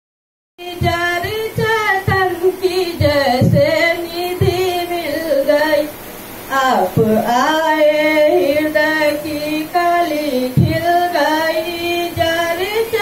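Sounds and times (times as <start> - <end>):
woman singing into microphone: 0.6 - 13.0.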